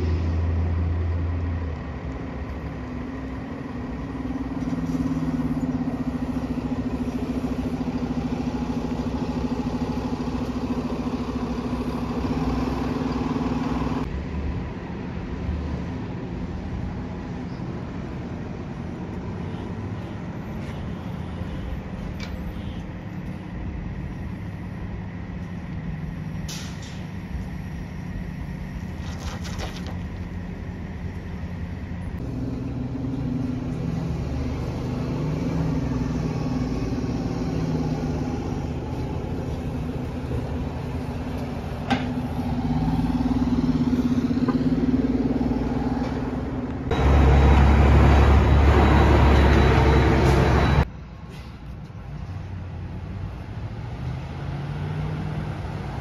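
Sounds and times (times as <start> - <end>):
bus engine driving by: 0.0 - 56.0
bus rumbling and pulling up: 0.0 - 56.0.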